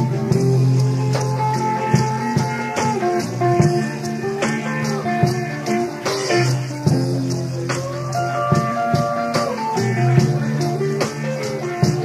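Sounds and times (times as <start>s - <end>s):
electric guitar playing chords: 0.0s - 12.0s
steady rock beat: 0.0s - 12.0s.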